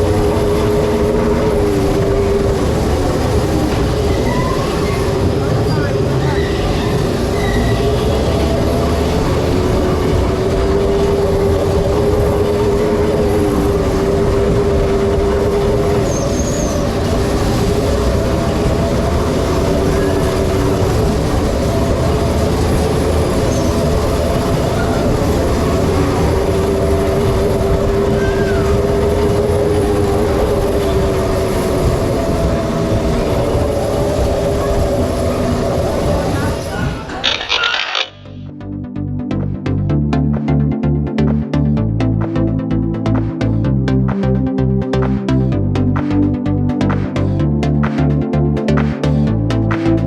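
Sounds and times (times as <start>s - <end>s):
vehicle rumble with whine: 0.0s - 50.0s.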